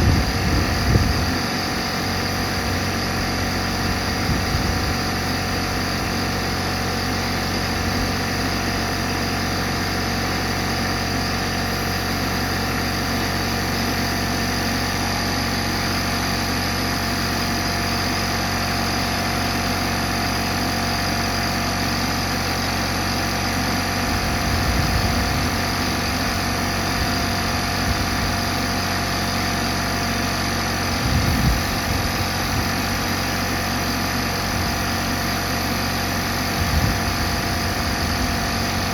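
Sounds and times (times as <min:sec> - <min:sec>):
engine humming steadily: 0:00.0 - 0:38.9.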